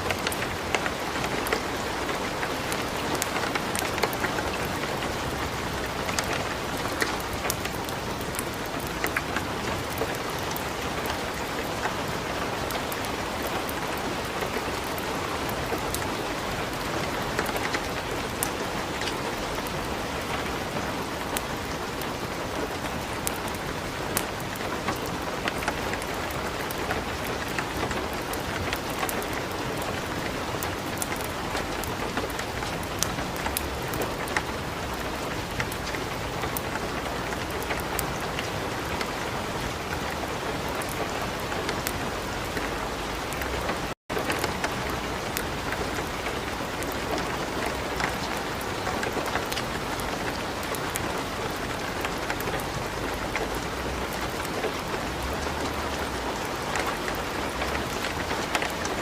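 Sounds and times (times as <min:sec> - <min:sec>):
light rain hiss: 0:00.0 - 0:59.0.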